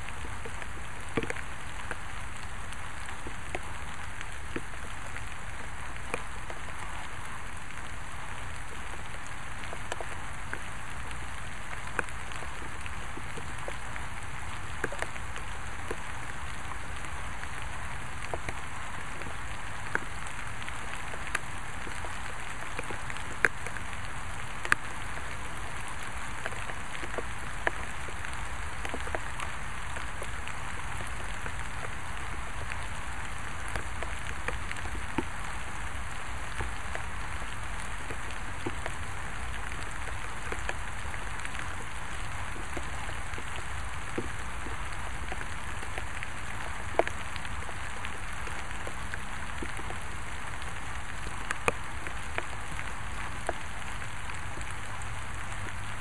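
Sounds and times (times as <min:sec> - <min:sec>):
raindrops ticking: 0:00.0 - 0:56.0
steady rain hiss: 0:00.0 - 0:56.0.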